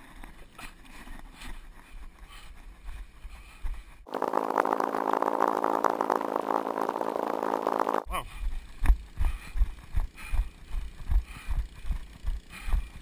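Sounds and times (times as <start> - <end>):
sped-up buzzy drone with ticks: 0.0 - 13.0.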